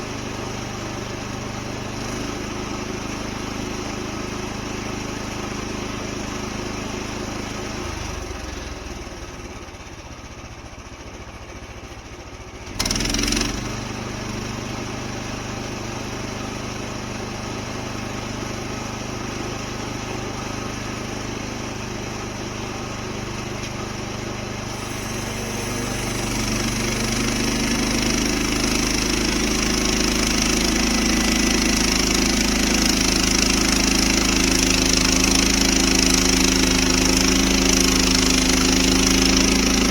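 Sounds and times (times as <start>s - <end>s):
bandsaw mill engine running: 0.0s - 39.9s.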